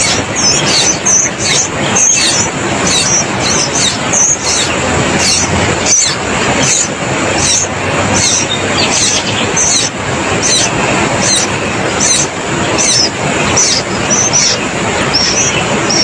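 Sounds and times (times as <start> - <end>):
bird chirping: 0.0 - 16.0
steady rushing noise: 0.0 - 16.0.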